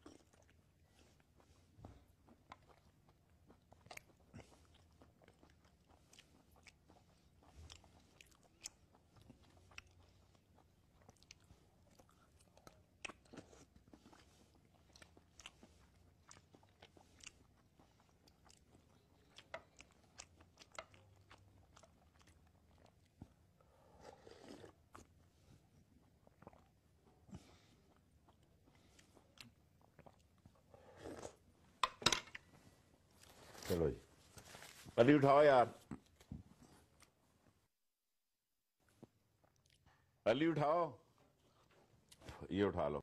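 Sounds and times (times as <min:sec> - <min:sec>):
person chewing: 0:00.0 - 0:33.8, 0:38.9 - 0:40.1.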